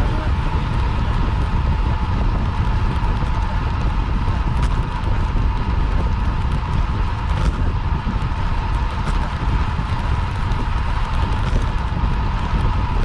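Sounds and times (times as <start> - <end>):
wind rush on microphone: 0.0 - 13.0.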